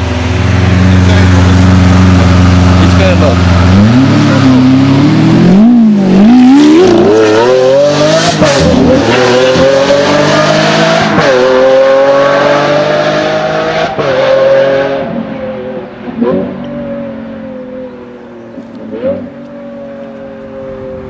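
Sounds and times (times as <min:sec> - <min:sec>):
sports car accelerating hard: 0:00.0 - 0:21.0.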